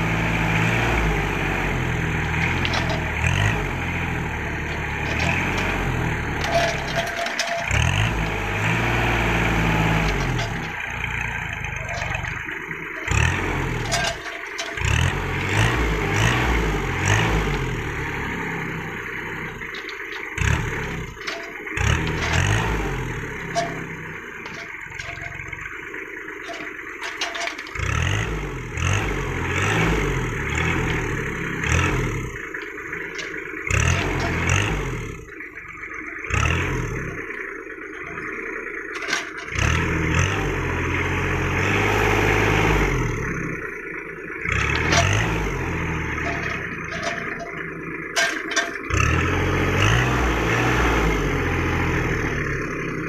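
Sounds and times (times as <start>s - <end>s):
fruit bunches clattering into trailer: 0.0s - 35.3s, 37.9s - 42.8s, 44.4s - 52.0s
tractor diesel engine revving: 0.0s - 53.0s.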